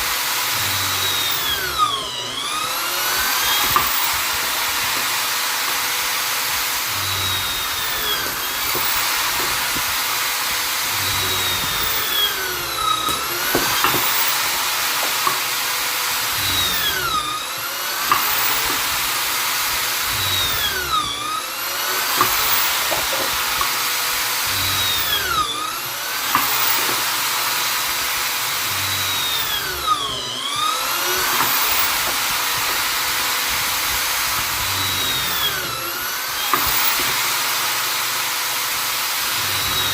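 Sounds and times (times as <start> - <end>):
electric drill whining: 0.0 - 39.9.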